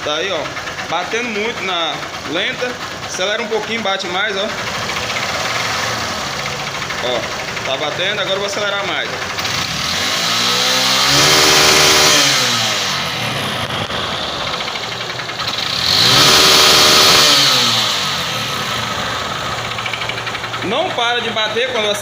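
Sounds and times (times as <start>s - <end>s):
engine knocking: 0.0s - 22.0s
motorcycle engine revving: 0.0s - 22.0s.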